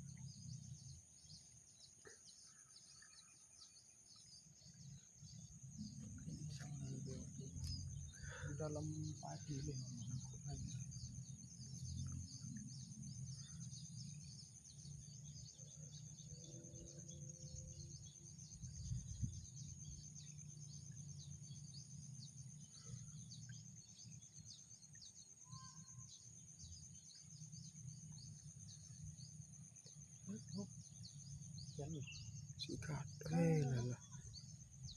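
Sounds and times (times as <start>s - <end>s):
insect and bird chirps: 0.0s - 34.9s
insect trill: 0.0s - 34.9s.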